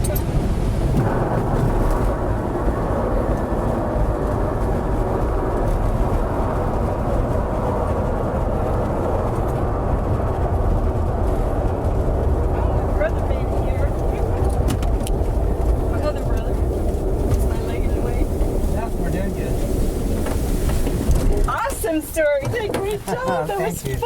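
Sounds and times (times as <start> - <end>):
rushing rumble in glider cockpit: 0.0 - 24.0.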